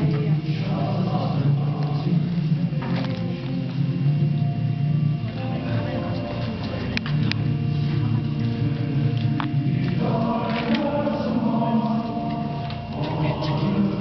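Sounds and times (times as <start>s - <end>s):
choir singing a hymn: 0.0s - 4.6s, 7.3s - 14.0s.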